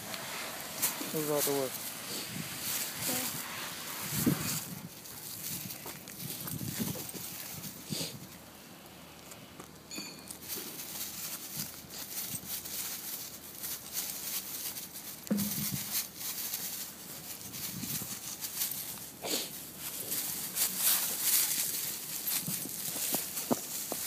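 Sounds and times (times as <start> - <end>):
dry leaves crunching under paws: 0.0 - 8.4, 10.2 - 24.0.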